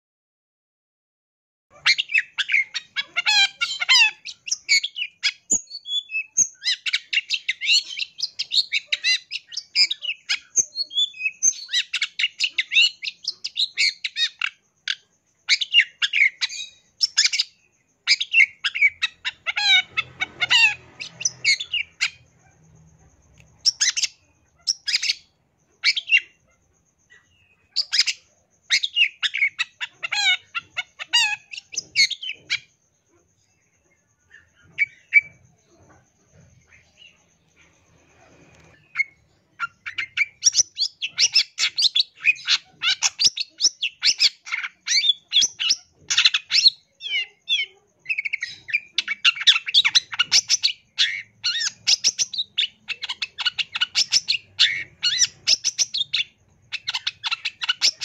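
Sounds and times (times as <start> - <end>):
bird singing chattering song: 1.7 - 58.0.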